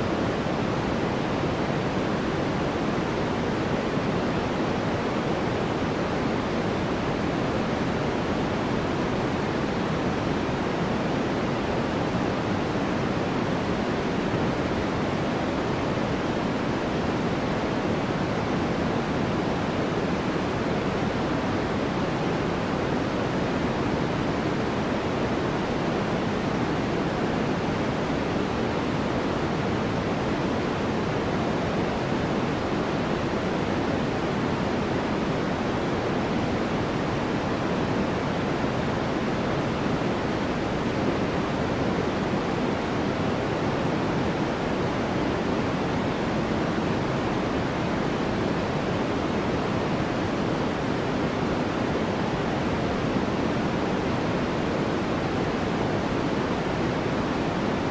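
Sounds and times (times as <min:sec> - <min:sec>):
steady white noise hiss: 0:00.0 - 0:57.9.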